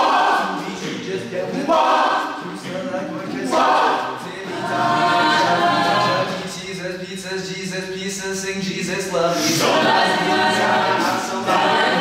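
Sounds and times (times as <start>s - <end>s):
a cappella group singing harmony: 0.0s - 12.0s.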